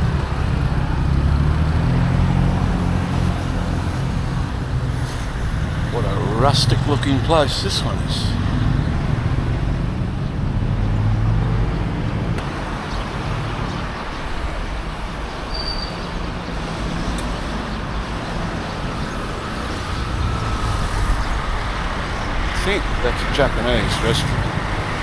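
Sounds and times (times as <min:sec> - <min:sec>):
street traffic passing: 0:00.0 - 0:25.0.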